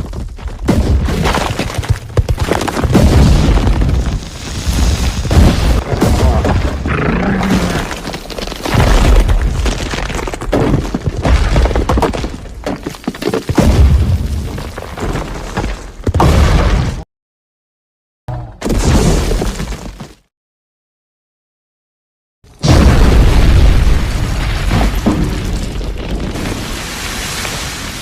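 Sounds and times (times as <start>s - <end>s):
debris crashing and shattering: 0.0s - 17.0s, 22.5s - 28.0s.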